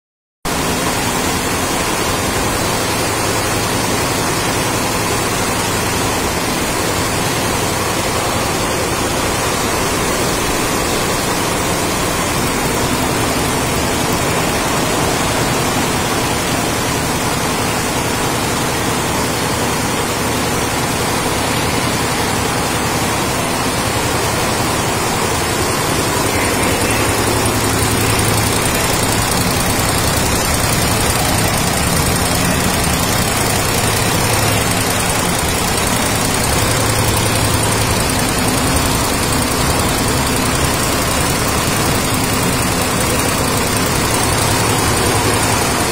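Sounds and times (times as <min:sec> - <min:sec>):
embroidery machine running: 0:00.5 - 0:45.9.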